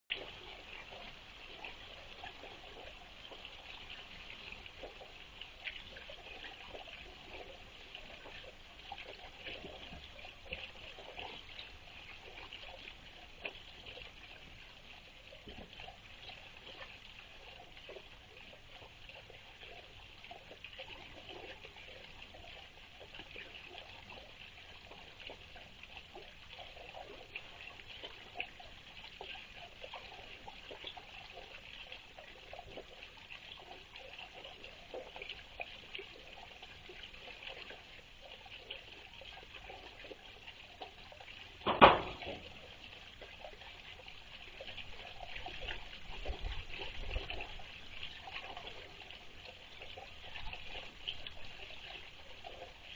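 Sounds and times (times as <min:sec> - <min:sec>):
water trickling into pond: 0:00.1 - 0:52.9.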